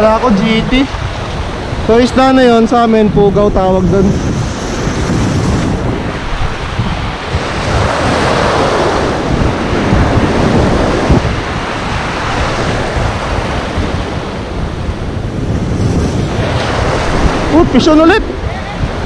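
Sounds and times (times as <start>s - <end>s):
surf breaking and washing: 0.0s - 19.0s
wind rumbling on microphone: 0.0s - 19.0s.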